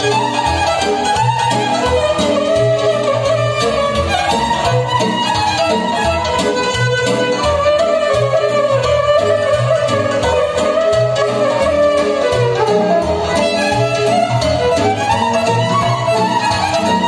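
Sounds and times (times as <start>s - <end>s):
live band dance music: 0.0s - 17.0s.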